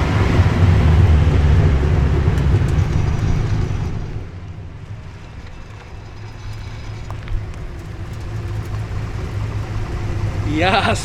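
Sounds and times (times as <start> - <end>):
car exhaust rumble: 0.0 - 11.0.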